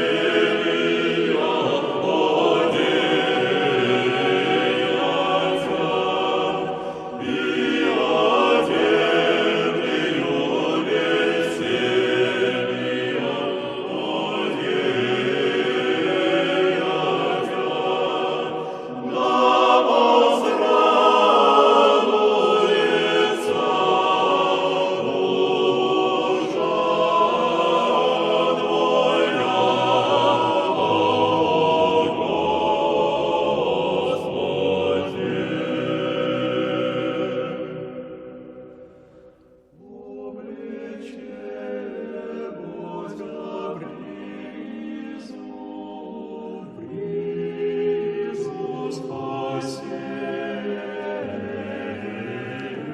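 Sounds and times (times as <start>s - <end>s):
music with choral singing: 0.0s - 52.9s.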